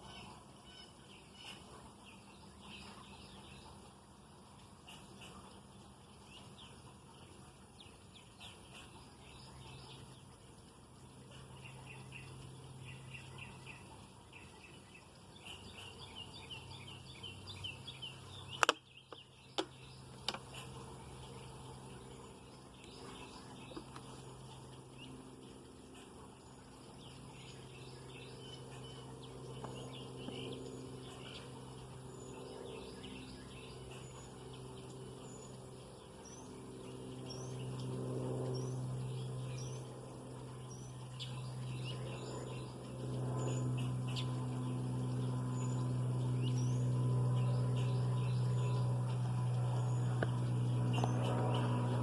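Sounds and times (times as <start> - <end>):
low engine-like drone: 0.0 - 52.0
small birds chirping: 0.0 - 52.0.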